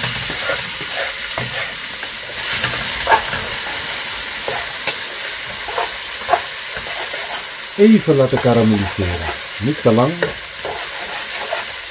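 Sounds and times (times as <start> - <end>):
onions sizzling in oil: 0.0 - 11.9.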